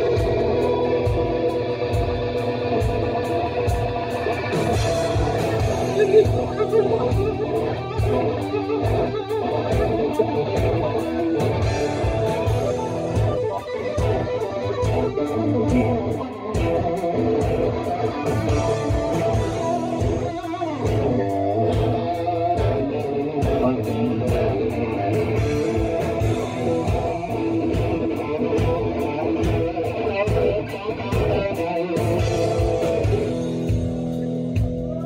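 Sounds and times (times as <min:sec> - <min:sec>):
instrumental hard rock music: 0:00.0 - 0:35.0.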